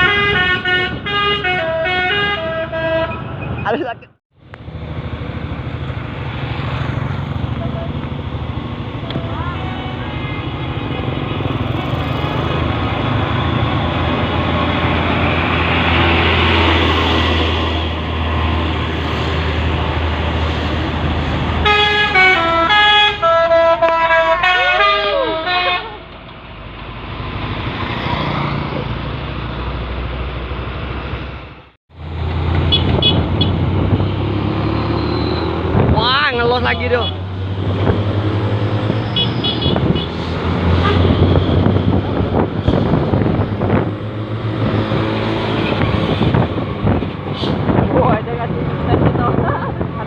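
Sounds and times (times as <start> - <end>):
heavy truck engine drone: 0.0 - 50.0
road and traffic noise: 0.0 - 50.0.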